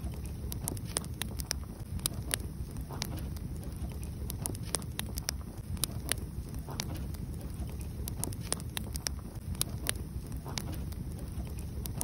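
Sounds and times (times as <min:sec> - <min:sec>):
low steady rumble: 0:00.0 - 0:12.0
wood fire crackling and popping: 0:00.0 - 0:12.0.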